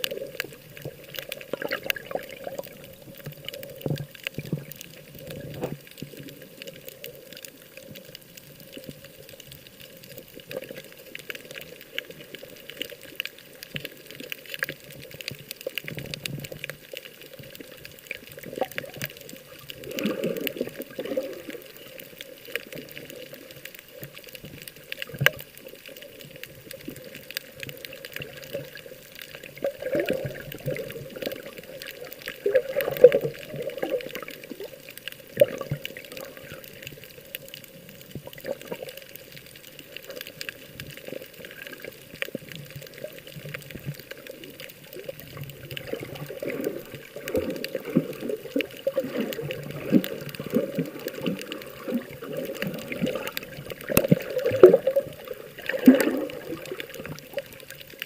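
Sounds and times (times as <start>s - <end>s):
small clicks: 0.0s - 58.0s
water sloshing and gurgling: 0.0s - 58.0s.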